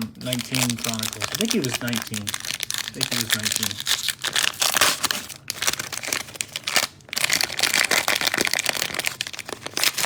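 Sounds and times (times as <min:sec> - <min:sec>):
cellophane wrapper crinkling: 0:00.0 - 0:10.0.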